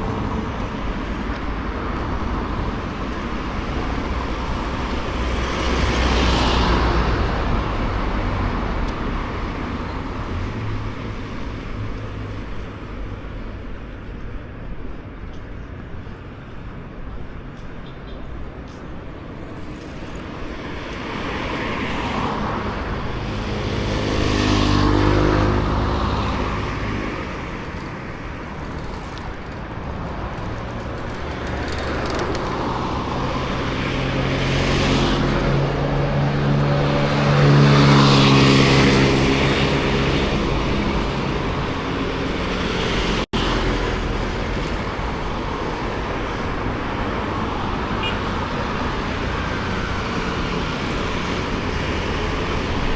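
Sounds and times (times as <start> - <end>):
cars driving past: 0.0 - 13.1, 18.2 - 52.9.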